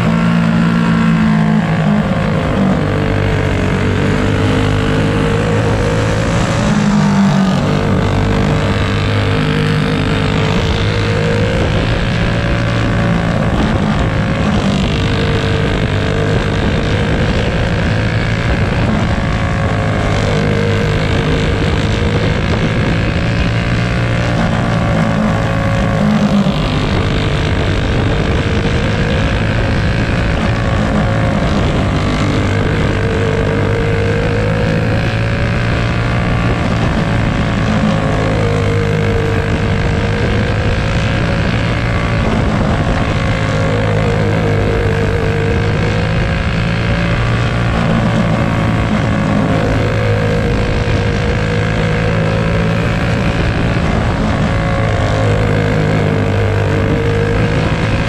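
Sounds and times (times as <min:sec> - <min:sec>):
kart engine at race speed: 0:00.0 - 0:58.0.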